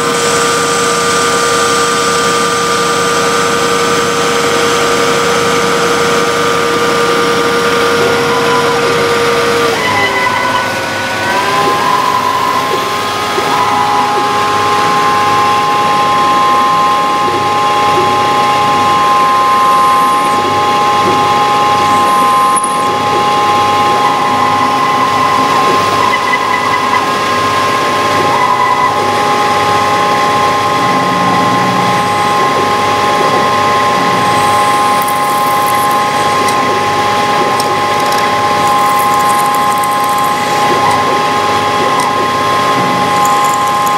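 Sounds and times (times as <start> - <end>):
lathe cutting noise: 0.0 - 43.9
lathe spindle whine: 0.0 - 43.9.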